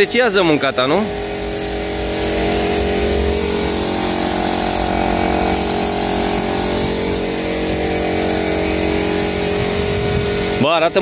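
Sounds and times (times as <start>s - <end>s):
spray gun hissing: 0.0s - 11.0s
steady mechanical hum: 0.0s - 11.0s.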